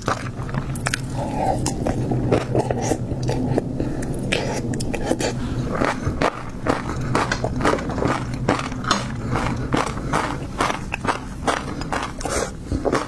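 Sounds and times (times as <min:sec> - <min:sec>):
biting and chewing seafood: 0:00.0 - 0:13.0.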